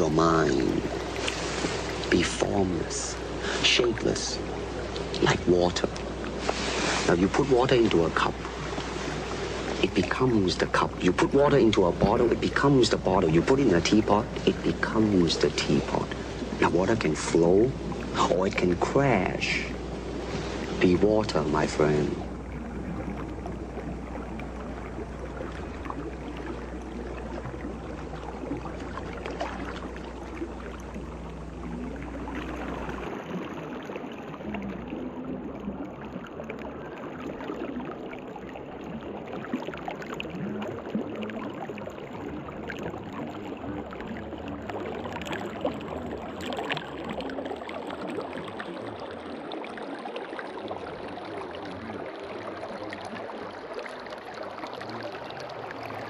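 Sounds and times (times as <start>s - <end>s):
low hum: 0.0s - 49.9s
running water splashing: 0.0s - 56.0s.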